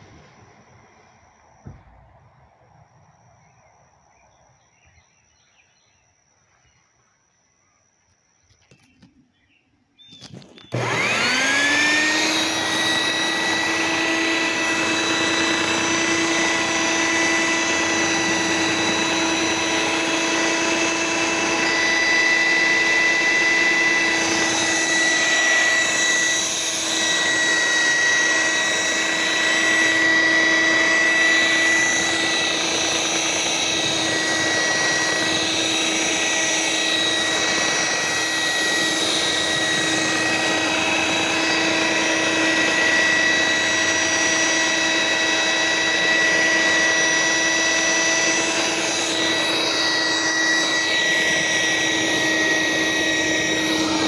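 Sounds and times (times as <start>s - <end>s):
shampoo polisher motor whining: 0.0s - 1.8s, 10.2s - 54.0s.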